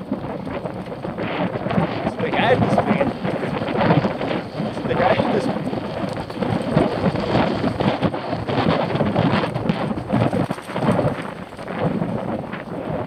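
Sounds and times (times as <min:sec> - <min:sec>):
mountain bike rattling: 0:00.0 - 0:13.0
tyre noise on dirt: 0:00.0 - 0:13.0
wind buffeting microphone: 0:00.0 - 0:13.0.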